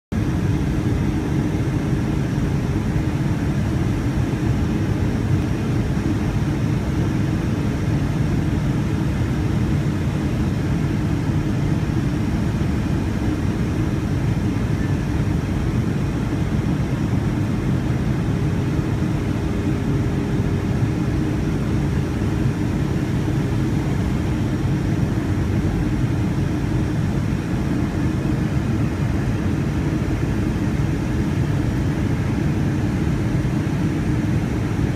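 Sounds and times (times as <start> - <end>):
jet engine and airflow drone: 0.1 - 34.9
faint steady hum: 0.2 - 34.9.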